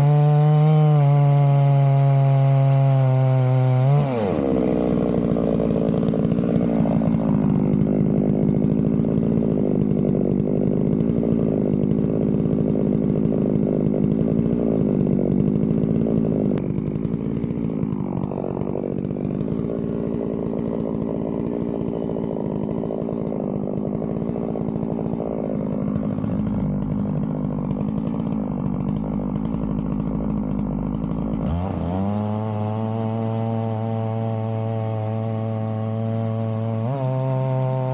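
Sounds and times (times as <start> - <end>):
chainsaw cutting log under load: 0.0 - 37.9.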